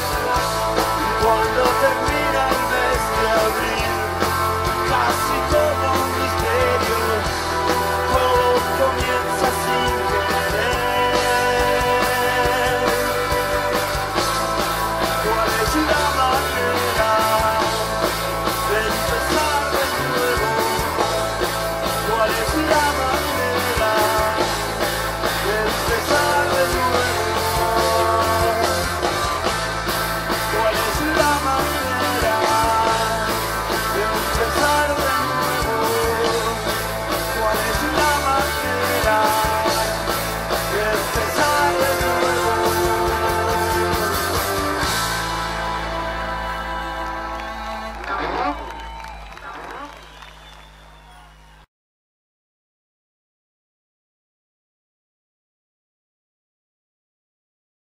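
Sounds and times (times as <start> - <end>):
steady drum beat: 0.0 - 47.2
electric guitars: 0.0 - 50.7
bass guitar: 0.0 - 51.6.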